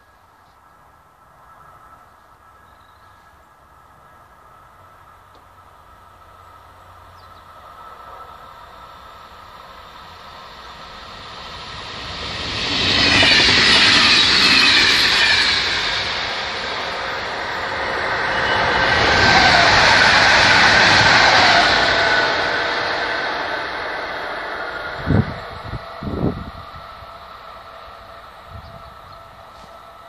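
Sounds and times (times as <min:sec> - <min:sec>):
second train approaching: 0:00.0 - 0:30.0
electric train passing: 0:00.9 - 0:30.0.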